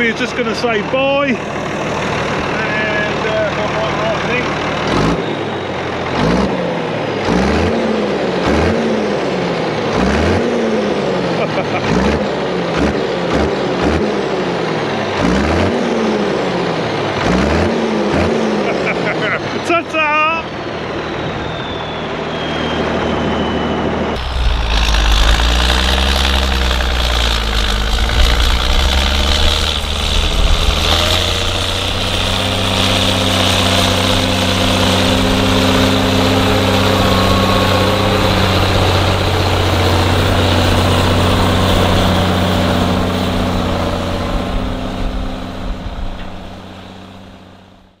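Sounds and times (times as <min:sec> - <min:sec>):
diesel tractor engine under load: 0:00.0 - 0:48.0.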